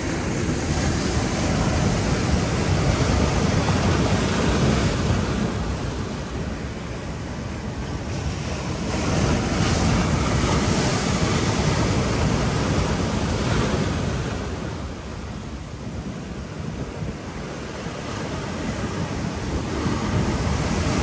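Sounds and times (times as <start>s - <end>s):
waves washing over boulders: 0.0s - 21.0s.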